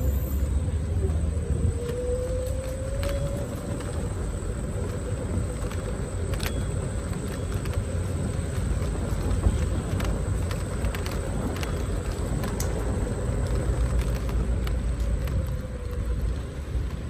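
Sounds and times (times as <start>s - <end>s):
tyres rumbling on brick paving: 0.0s - 17.0s
scooter clicks and rattles: 1.6s - 17.0s.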